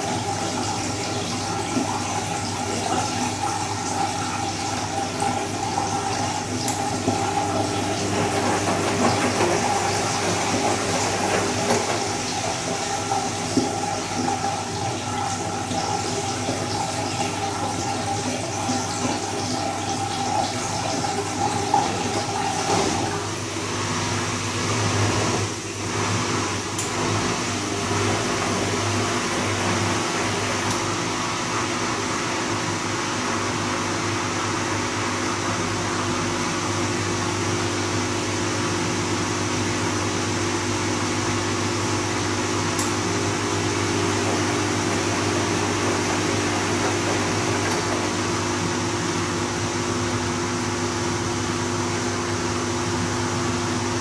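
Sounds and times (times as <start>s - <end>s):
washing machine motor hum: 0.0s - 54.0s
water rushing through washing machine: 0.0s - 54.0s.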